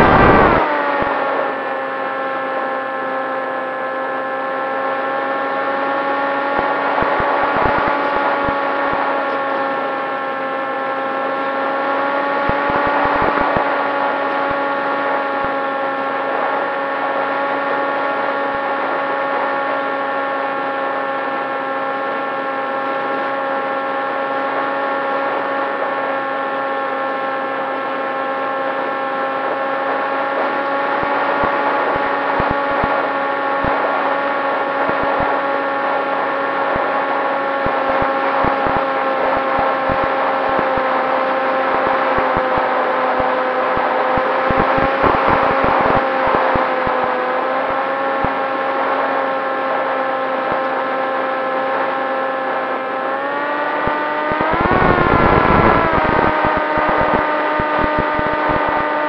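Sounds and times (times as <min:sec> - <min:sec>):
electric motor and propeller whining: 0:00.0 - 0:59.0.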